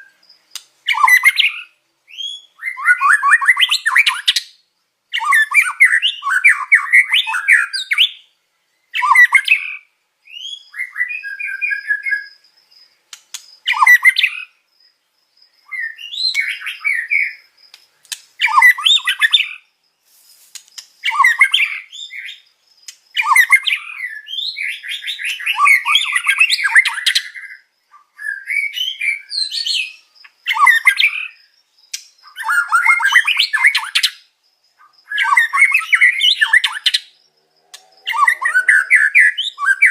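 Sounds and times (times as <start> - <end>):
songbird singing chattering phrases: 0.0 - 39.9.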